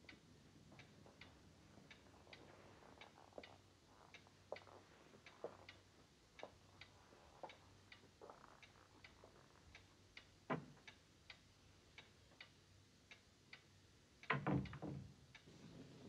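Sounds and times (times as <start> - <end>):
clock ticking: 0.0 - 15.5.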